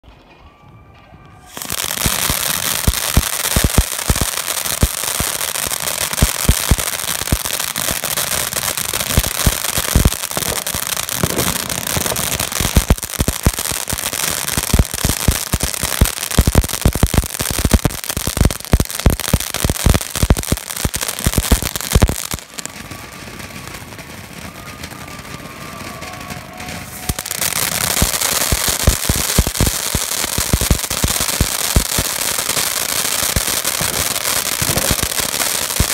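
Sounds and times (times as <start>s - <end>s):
firework hissing and crackling: 1.4s - 35.9s.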